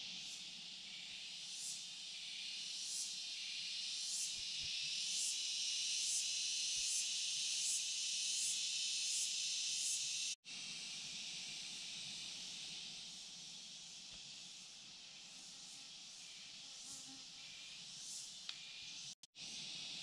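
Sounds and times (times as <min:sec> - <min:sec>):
insects droning in chorus: 0:00.0 - 0:20.0
quieter steady hiss: 0:00.0 - 0:20.0.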